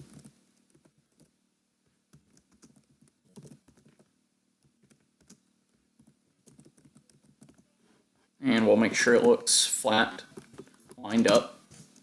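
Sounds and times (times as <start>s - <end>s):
faint keyboard typing: 0.0s - 7.7s, 8.6s - 12.0s.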